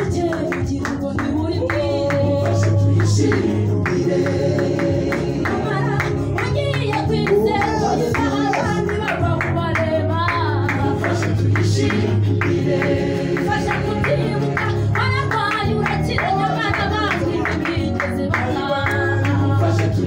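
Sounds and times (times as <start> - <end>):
amplified instrumental accompaniment: 0.0 - 20.0
women singing together: 0.0 - 20.0.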